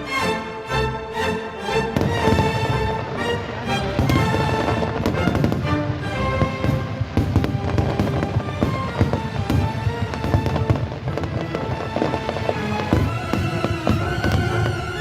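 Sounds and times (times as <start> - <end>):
fireworks bursting: 1.9 - 15.0.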